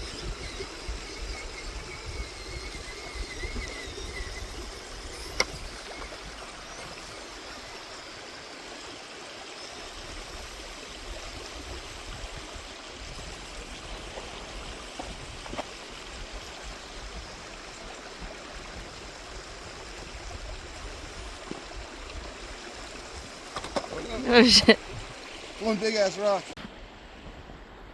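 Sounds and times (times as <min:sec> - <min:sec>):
creek water running: 0:00.0 - 0:27.4.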